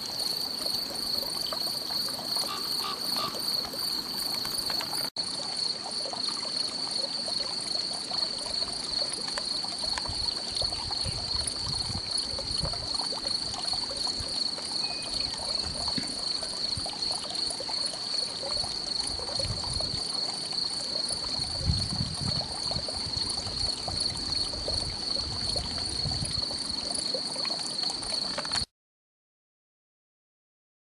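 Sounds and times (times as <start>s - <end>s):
crickets chirping: 0.0s - 28.7s.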